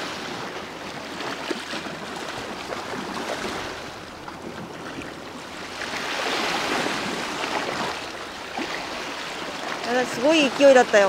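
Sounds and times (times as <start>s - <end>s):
sea waves washing against rocks: 0.0s - 11.0s.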